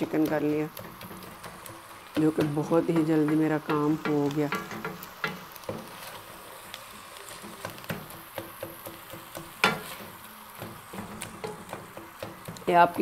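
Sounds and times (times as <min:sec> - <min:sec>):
spinach sizzling in a pan: 0:00.0 - 0:13.0
wooden spoon tapping pan: 0:00.0 - 0:13.0.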